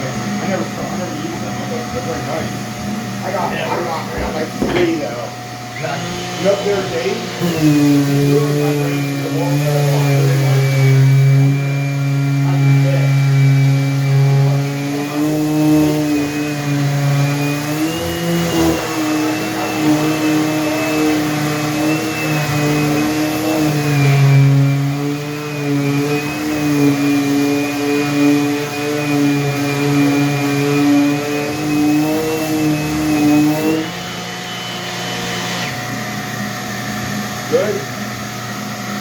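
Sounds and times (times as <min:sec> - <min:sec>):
electric motor humming and whining: 0:00.0 - 0:39.0.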